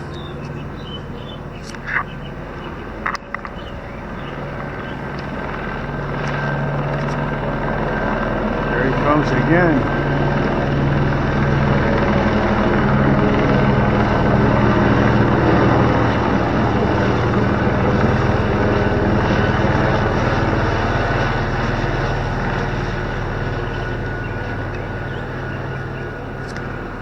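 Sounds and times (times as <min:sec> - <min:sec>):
helicopter rotor beating: 0:00.0 - 0:27.0.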